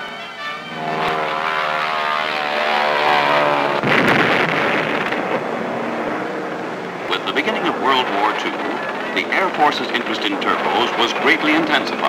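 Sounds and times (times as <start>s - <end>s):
propeller aircraft engines droning: 0.0s - 12.0s
loud rushing rumble: 0.6s - 12.0s.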